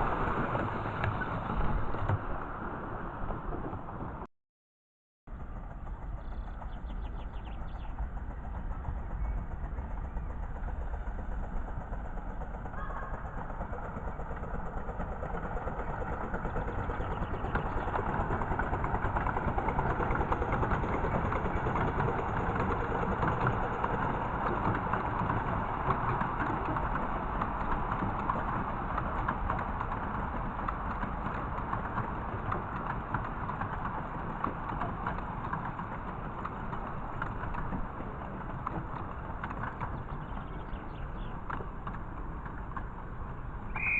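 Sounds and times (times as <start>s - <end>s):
miniature train rumbling and clattering: 0.0s - 4.3s, 5.3s - 43.9s.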